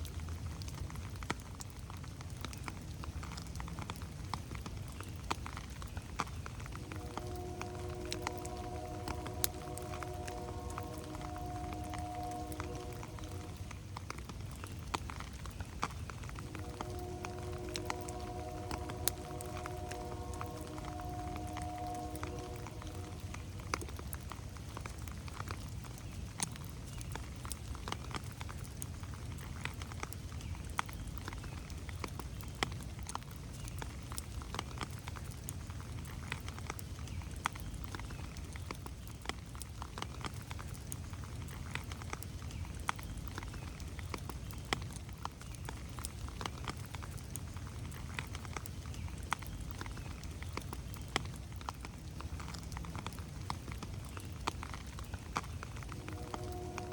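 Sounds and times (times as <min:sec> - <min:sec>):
low rain rumble: 0:00.0 - 0:56.9
raindrops ticking: 0:00.0 - 0:56.9.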